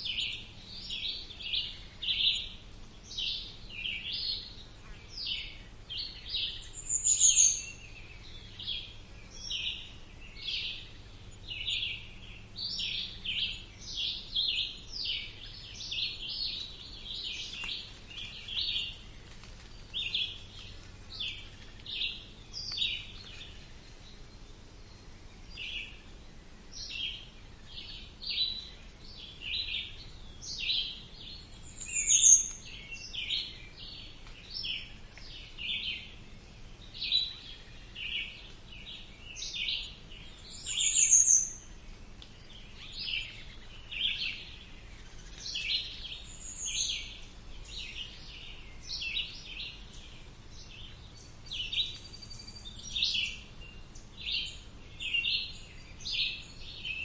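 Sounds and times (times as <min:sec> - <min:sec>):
birds chirping: 0:00.0 - 0:57.0
faint background hum: 0:00.0 - 0:57.0.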